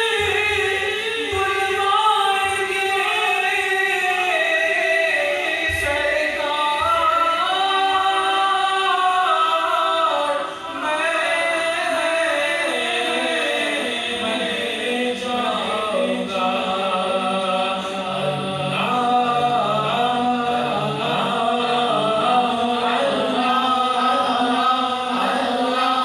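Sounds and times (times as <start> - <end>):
layered vocal backing: 0.0 - 26.0
man singing with echo: 0.0 - 26.0.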